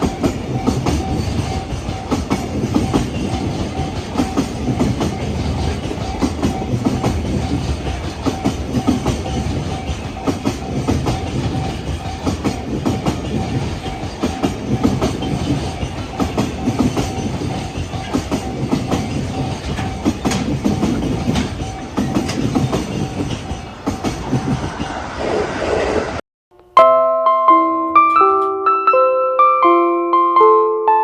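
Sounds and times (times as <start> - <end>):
train wheels clattering over rail joints: 0.0 - 25.0.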